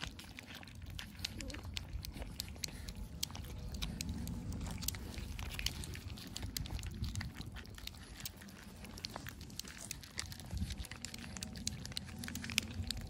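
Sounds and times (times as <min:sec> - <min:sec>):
cats crunching dry kibble: 0:00.0 - 0:13.0
low rumble: 0:00.0 - 0:13.0.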